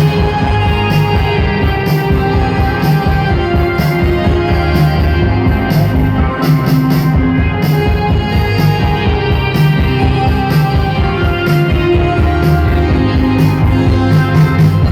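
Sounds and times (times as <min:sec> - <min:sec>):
live band playing instrumental: 0:00.0 - 0:14.9
pulsing bass: 0:00.0 - 0:14.9
steady drum beat: 0:00.0 - 0:14.9.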